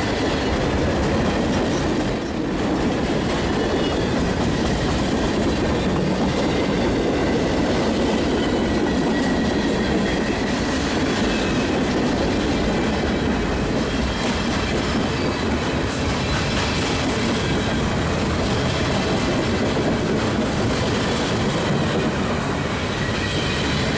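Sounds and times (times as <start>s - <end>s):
freight train rolling past: 0.0s - 23.9s.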